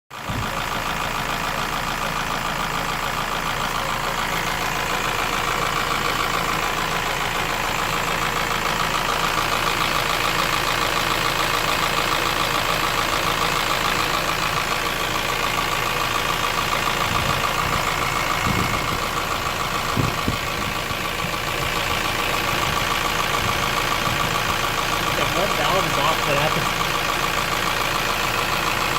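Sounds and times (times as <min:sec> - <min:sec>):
car engine running with knock: 0:00.1 - 0:28.9.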